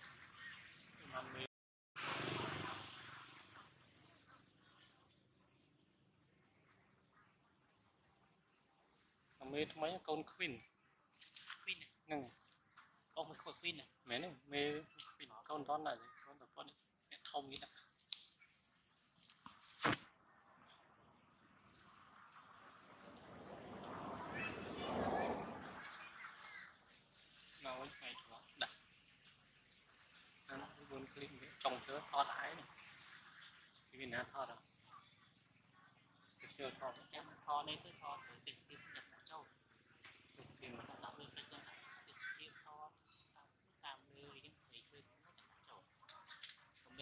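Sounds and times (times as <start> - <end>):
insect chorus: 0.0 - 47.0.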